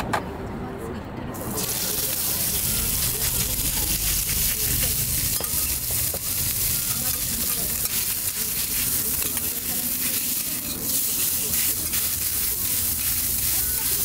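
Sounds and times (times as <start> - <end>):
noodles sizzling in a pan: 1.5 - 14.0.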